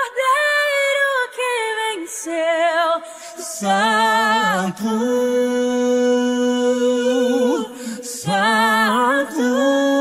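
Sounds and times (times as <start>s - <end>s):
person singing a cappella: 0.0s - 10.0s.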